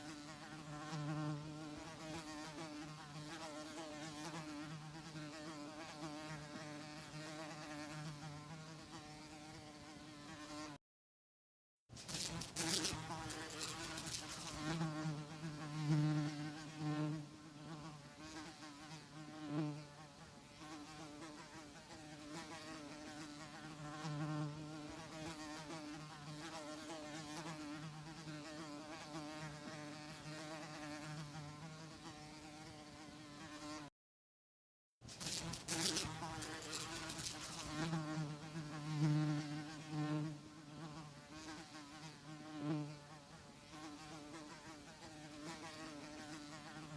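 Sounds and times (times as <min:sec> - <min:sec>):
housefly buzzing: 0:00.0 - 0:10.8, 0:12.0 - 0:33.9, 0:35.0 - 0:46.9.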